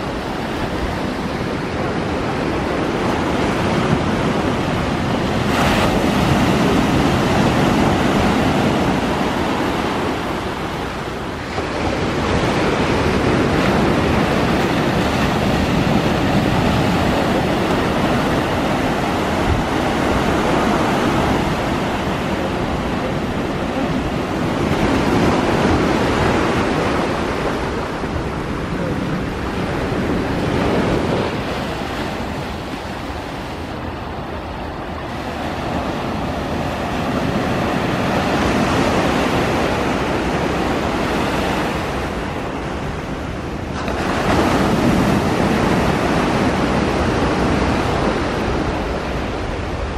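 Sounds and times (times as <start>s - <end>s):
surf rushing: 0.0s - 49.9s.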